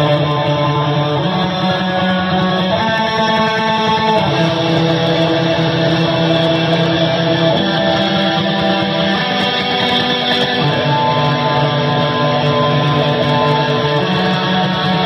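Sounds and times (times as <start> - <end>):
distorted electric guitars: 0.0 - 15.0
drums: 0.0 - 15.0.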